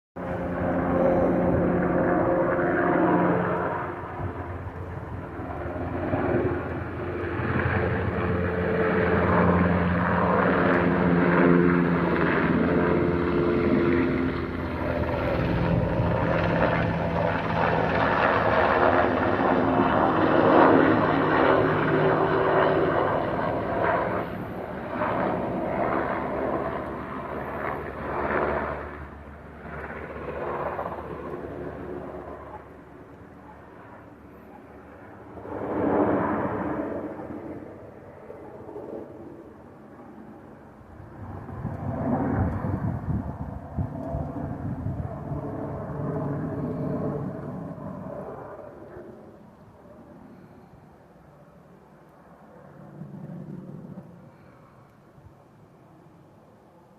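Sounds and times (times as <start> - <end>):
helicopter rotor beating: 0.2 - 34.0, 34.7 - 39.2, 41.1 - 49.1
helicopter engine whine: 0.2 - 55.2.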